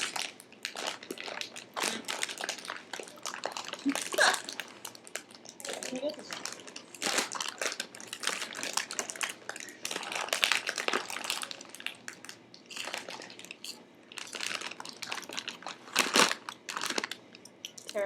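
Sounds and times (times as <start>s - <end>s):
plastic snack bag crinkling: 0.0s - 18.0s.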